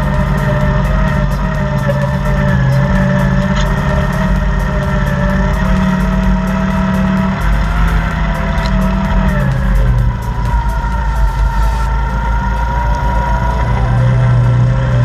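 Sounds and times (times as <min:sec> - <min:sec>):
atv engine running: 0:00.0 - 0:15.0
steady whine: 0:00.0 - 0:15.0.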